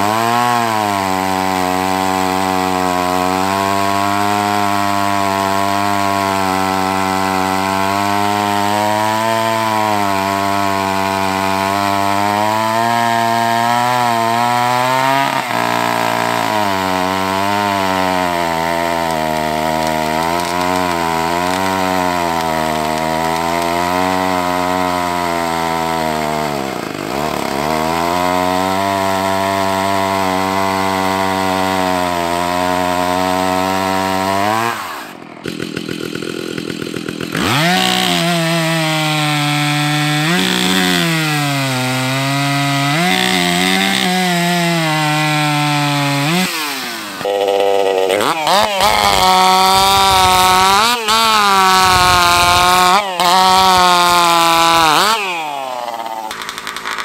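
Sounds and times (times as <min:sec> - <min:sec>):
chainsaw cutting timber: 0:00.0 - 0:57.0.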